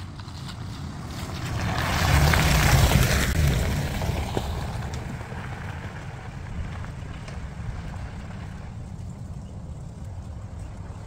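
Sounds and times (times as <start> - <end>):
car engine rumble: 0.0 - 11.0
tyres on gravel: 0.0 - 11.0.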